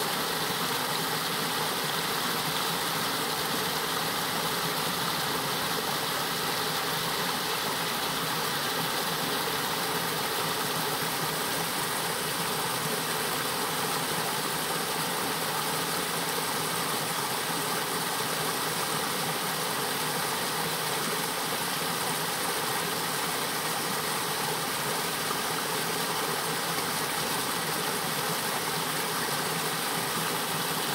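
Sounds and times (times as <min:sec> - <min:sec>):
creek water rushing over rock: 0:00.0 - 0:30.9.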